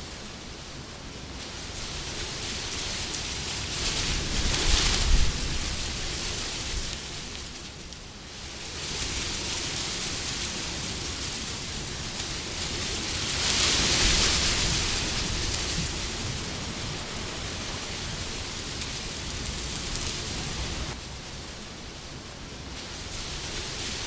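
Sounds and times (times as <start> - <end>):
wind blowing: 0.0 - 7.7, 8.4 - 24.0.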